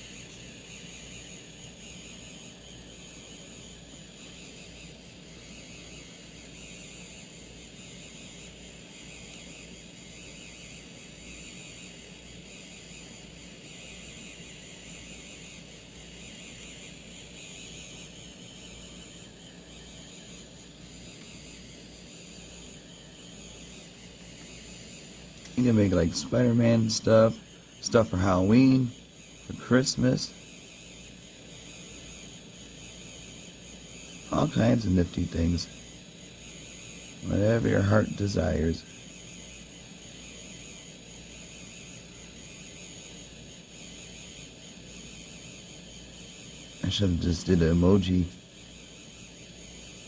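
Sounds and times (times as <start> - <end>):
small motor whirring: 0.0 - 50.0.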